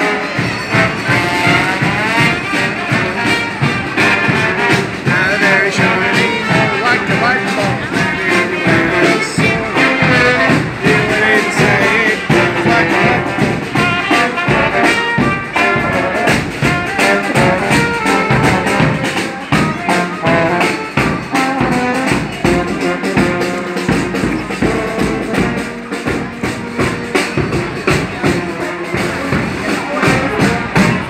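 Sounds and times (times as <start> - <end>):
marching brass band playing: 0.0 - 31.0
bass drum beating: 0.5 - 31.0.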